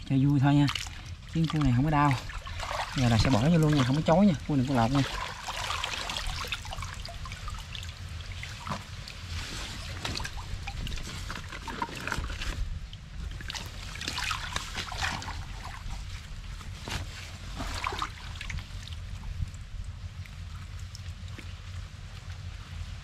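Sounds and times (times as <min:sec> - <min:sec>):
water trickling and splashing: 0:00.0 - 0:22.6.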